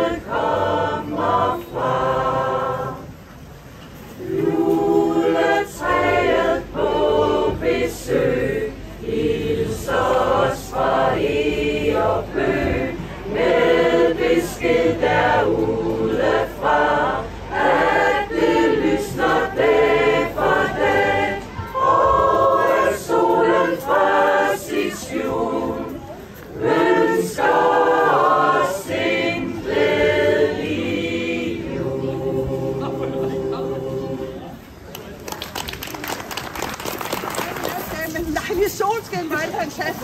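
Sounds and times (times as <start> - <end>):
mixed choir singing unaccompanied: 0.0 - 34.8.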